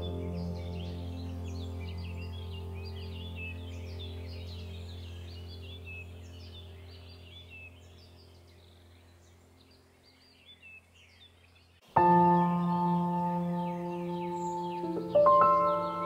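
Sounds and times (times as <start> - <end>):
ambient drone music: 0.0 - 10.0, 11.9 - 16.0
birdsong chirping: 0.0 - 16.0.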